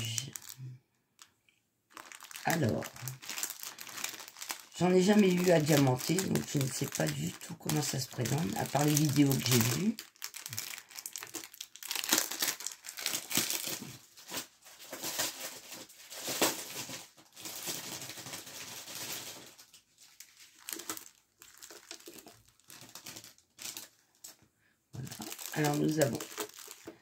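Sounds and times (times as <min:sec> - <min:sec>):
plastic packaging crinkling: 0:00.0 - 0:24.4, 0:25.0 - 0:27.0.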